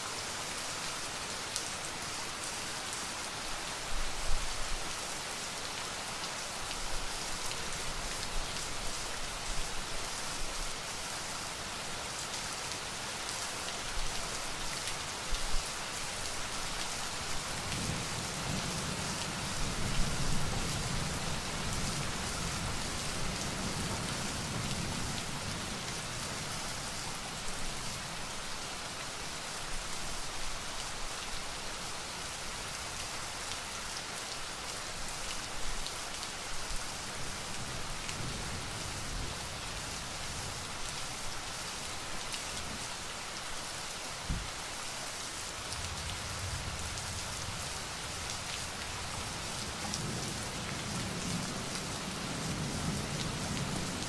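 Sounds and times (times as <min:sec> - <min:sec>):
rain pattering: 0:03.8 - 0:31.7, 0:32.3 - 0:54.0.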